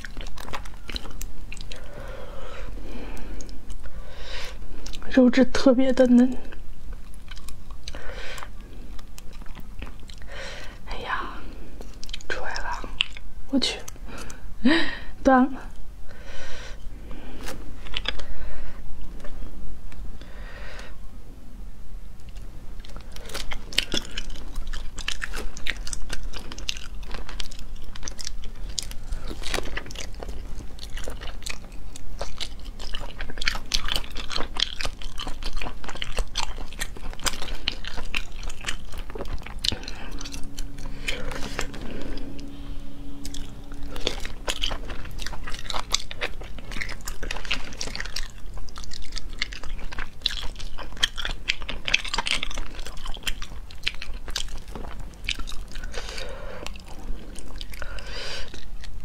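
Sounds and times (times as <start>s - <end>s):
wet chewing and biting: 0.0s - 5.1s, 6.5s - 10.9s, 11.5s - 14.4s, 16.8s - 18.4s, 22.2s - 59.0s
low hum: 0.0s - 59.0s.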